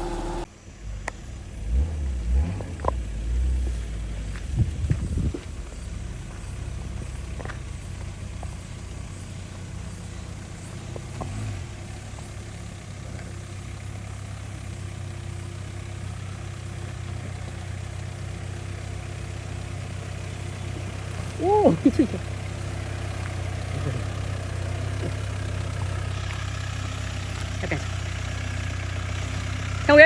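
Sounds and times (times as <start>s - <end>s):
vehicle engine running at low revs: 0.0s - 30.0s.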